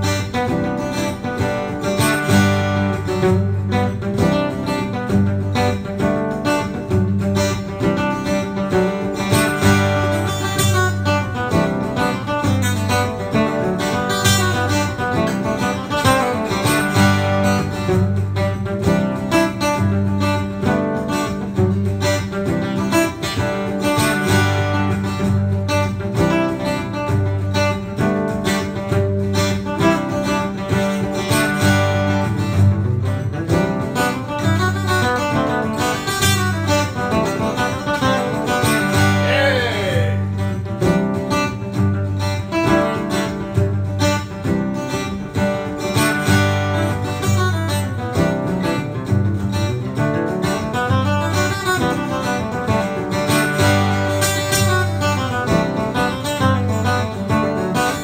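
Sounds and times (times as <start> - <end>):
guitar piece with plucked strings: 0.0 - 58.0.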